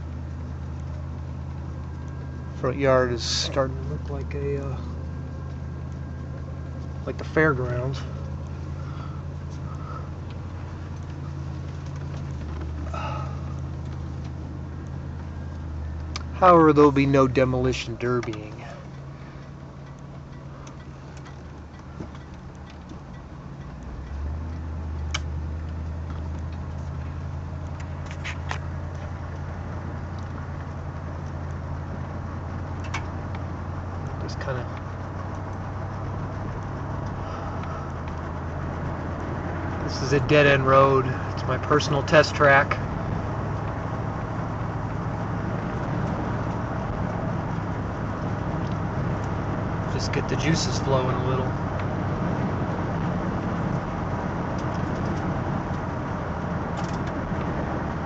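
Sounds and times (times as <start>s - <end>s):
car engine running: 0.0s - 58.0s
road noise: 0.0s - 58.0s.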